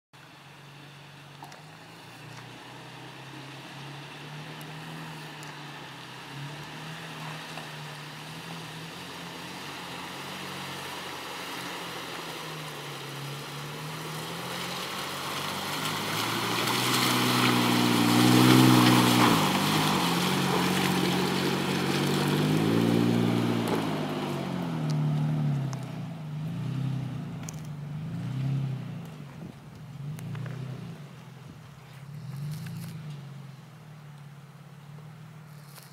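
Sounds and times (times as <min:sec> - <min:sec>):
pickup truck engine passing by: 0:01.7 - 0:35.6.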